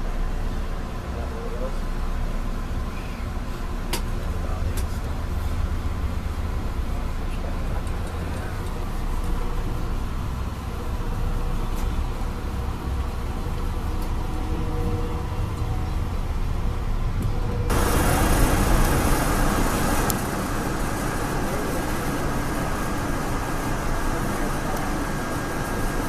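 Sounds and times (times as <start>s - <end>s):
train wheels rumbling on track: 0.0s - 26.0s
passing freight train rushing: 4.4s - 26.0s.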